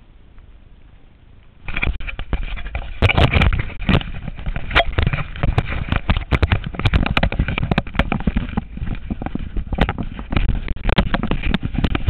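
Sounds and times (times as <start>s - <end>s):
camera rubbing against jacket: 1.7s - 12.0s.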